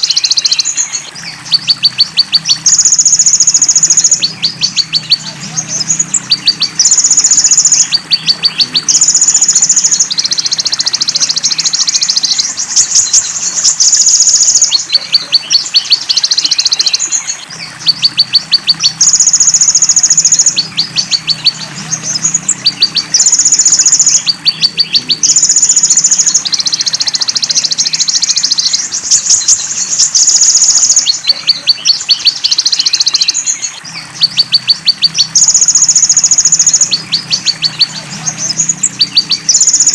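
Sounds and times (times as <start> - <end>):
buzzing bird trills: 0.0 - 39.9
running water: 0.0 - 39.9
thin ticking bird chirps: 0.0 - 39.9.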